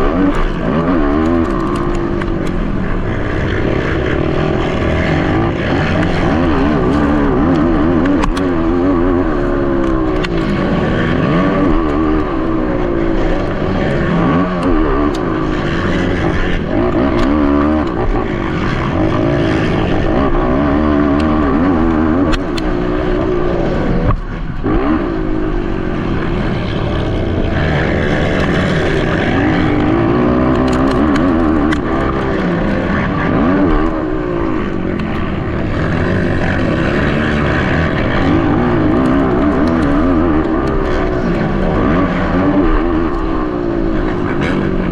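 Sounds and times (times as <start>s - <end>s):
atv engines revving: 0.0s - 44.9s.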